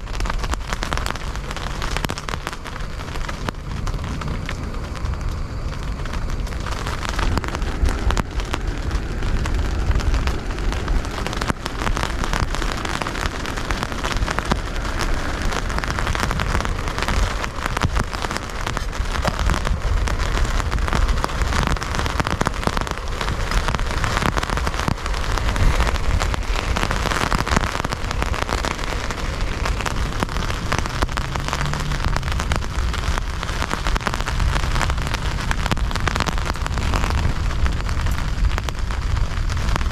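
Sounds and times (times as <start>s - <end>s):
heavy rain falling: 0.0s - 39.9s
low rumble: 0.0s - 39.9s.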